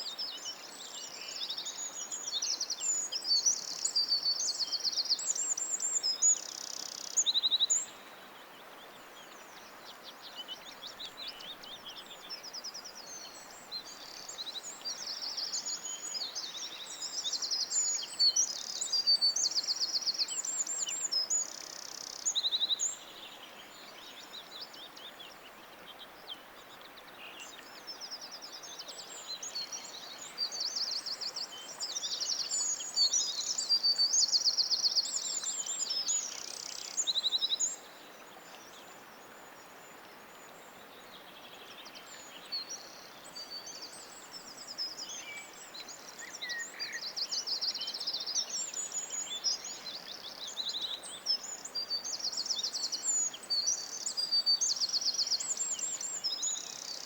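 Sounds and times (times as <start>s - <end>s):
faint steady hiss: 0.0s - 57.0s
songbirds singing: 0.0s - 57.0s.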